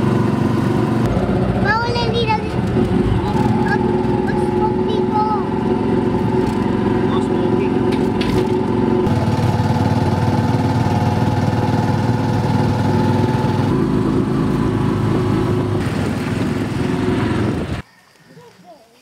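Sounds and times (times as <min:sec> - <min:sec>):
small motorcycle engine running: 0:00.0 - 0:17.8.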